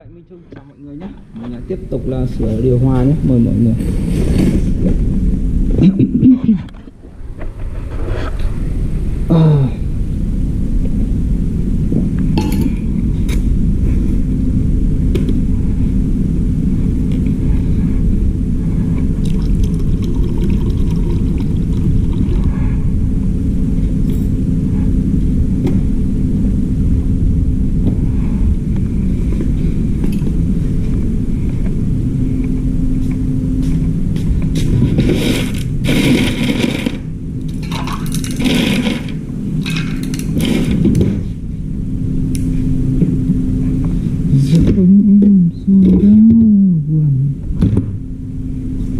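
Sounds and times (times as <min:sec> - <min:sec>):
faint even hum: 0:00.0 - 0:48.9
low mechanical rumble: 0:00.0 - 0:48.9.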